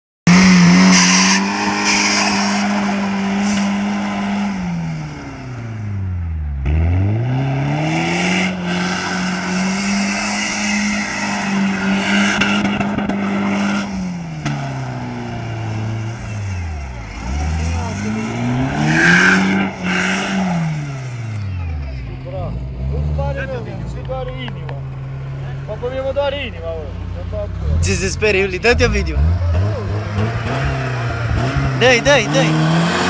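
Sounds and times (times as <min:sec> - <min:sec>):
car engine revving high: 0:00.3 - 0:23.9, 0:27.5 - 0:33.0.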